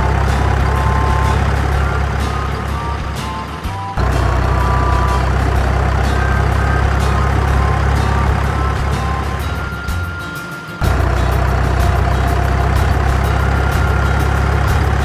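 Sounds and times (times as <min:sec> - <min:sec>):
diesel truck engine rumble: 0:00.0 - 0:15.0
short high beeps: 0:00.0 - 0:15.0.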